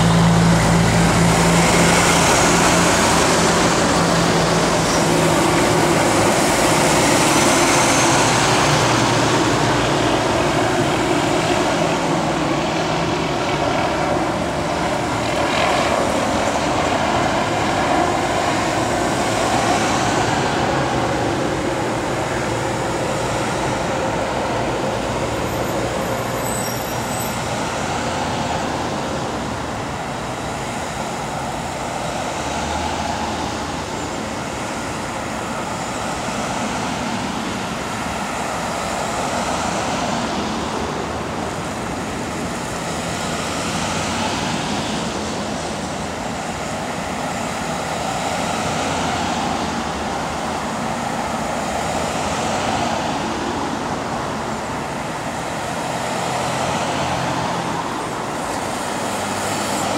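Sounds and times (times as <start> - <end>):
police cars driving past: 0.0 - 59.9.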